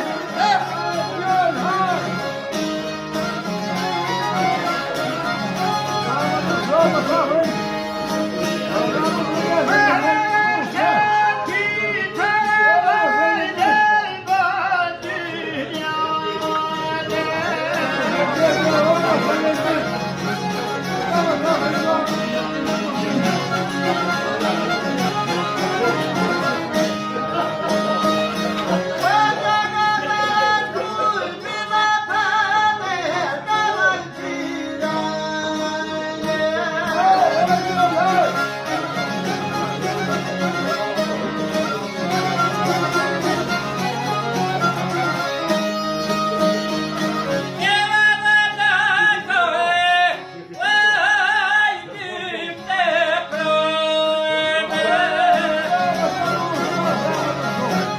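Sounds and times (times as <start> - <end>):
string accompaniment: 0.0 - 57.9.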